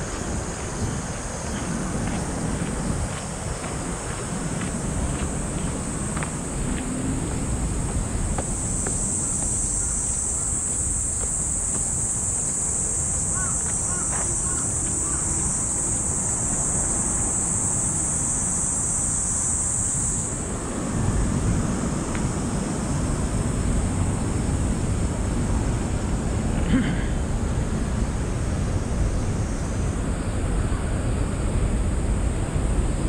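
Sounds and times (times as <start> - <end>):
cicadas buzzing: 0.0 - 33.0
wind rumble on microphone: 0.0 - 33.0.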